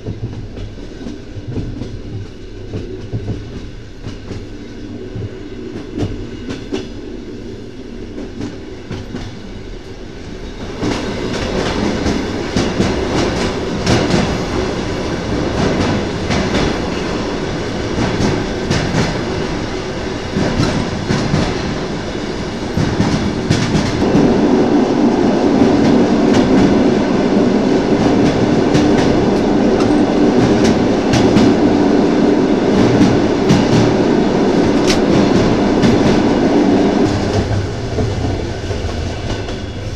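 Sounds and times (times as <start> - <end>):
running train rumble: 0.0 - 39.9.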